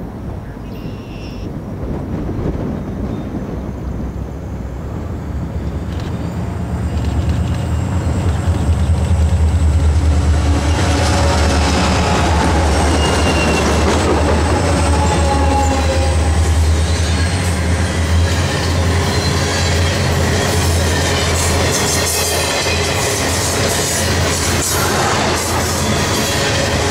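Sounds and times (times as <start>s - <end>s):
diesel locomotive engines droning: 0.0s - 26.9s
freight cars rumbling and clattering: 1.6s - 26.9s.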